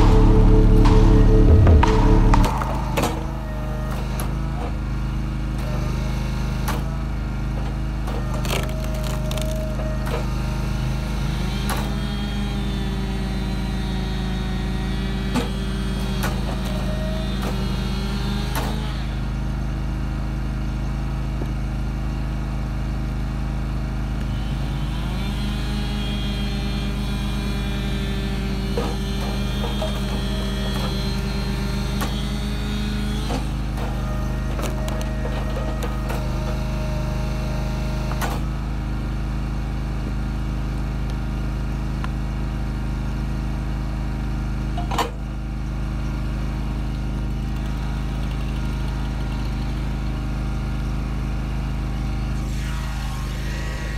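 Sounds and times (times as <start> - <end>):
hydraulic whine: 0.0 - 53.9
small gas engine running: 0.0 - 53.9.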